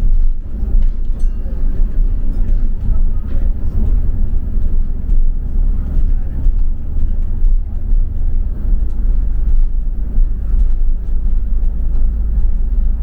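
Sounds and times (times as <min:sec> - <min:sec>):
bus engine rumble: 0:00.0 - 0:13.0
road noise: 0:00.0 - 0:13.0.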